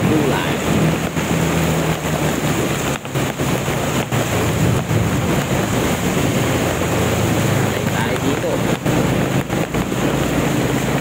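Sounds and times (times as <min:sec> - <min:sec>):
heavy rain: 0:00.0 - 0:11.0
vehicle engine drone: 0:00.0 - 0:11.0
water splashing: 0:00.0 - 0:11.0
wind on microphone: 0:00.0 - 0:11.0.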